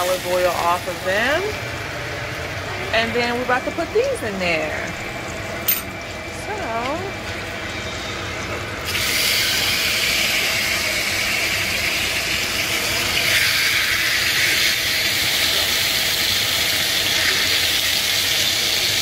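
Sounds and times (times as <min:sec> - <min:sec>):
meat sizzling in a frying pan: 0:00.0 - 0:04.3, 0:06.0 - 0:19.0.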